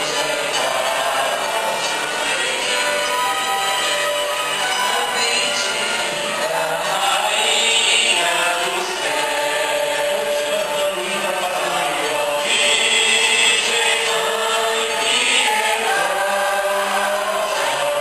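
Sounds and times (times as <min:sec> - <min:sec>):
choir and congregation singing hymn: 0:00.0 - 0:18.0.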